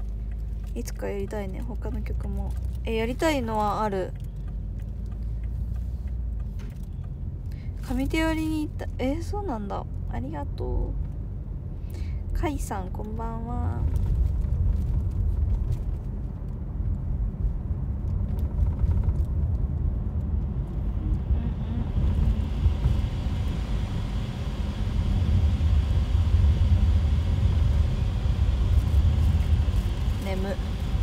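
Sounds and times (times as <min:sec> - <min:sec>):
vehicle interior rumble: 0:00.0 - 0:31.0.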